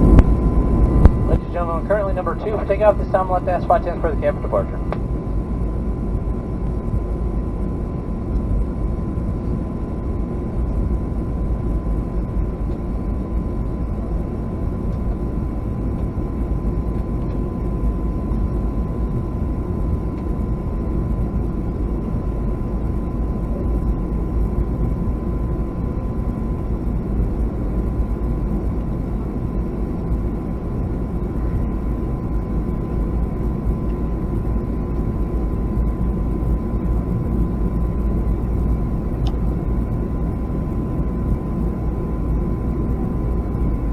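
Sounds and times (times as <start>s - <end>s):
jet engines idling: 0.0s - 43.9s.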